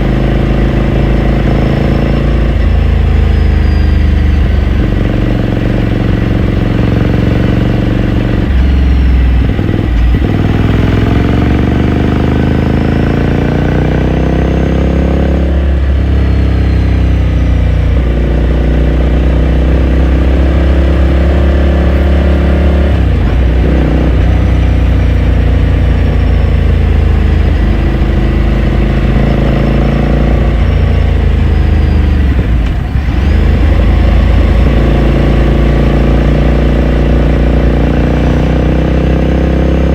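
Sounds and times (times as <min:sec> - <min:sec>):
gear changes: 0:00.0 - 0:13.4, 0:14.9 - 0:38.8
motorcycle engine and exhaust: 0:00.0 - 0:39.9.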